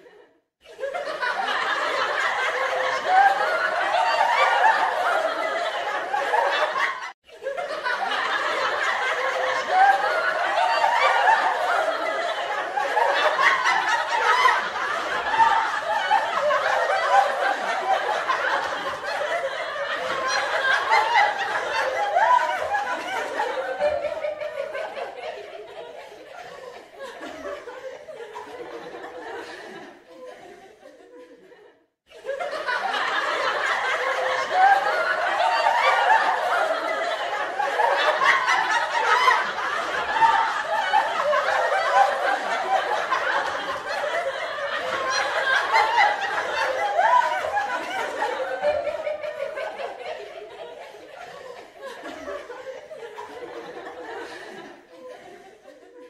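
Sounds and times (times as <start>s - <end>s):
people laughing: 0.0s - 56.0s.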